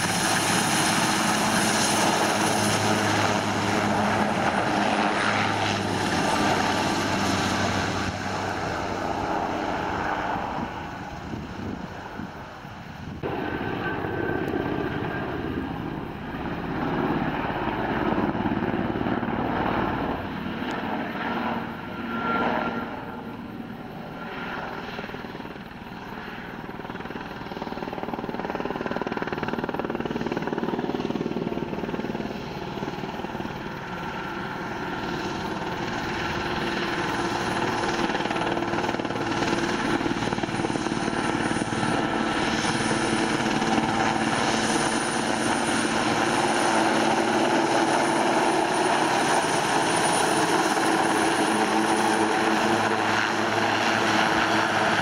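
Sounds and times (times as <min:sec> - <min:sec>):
helicopter flying past: 0:00.0 - 0:55.0.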